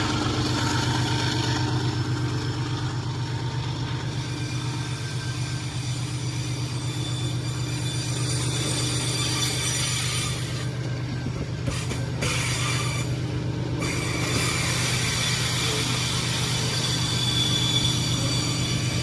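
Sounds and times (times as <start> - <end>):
locomotive engine rumbling: 0.0 - 19.0.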